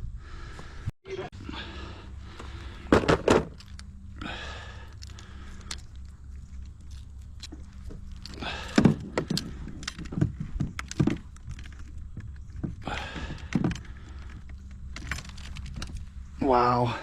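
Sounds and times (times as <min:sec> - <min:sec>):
knocks and rattles of handling gear: 0:02.2 - 0:16.4.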